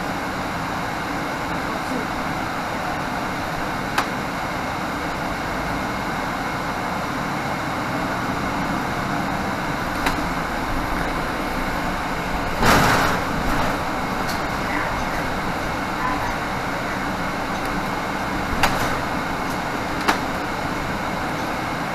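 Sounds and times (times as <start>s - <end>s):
bus engine drone: 0.0s - 21.9s
road noise: 0.0s - 21.9s.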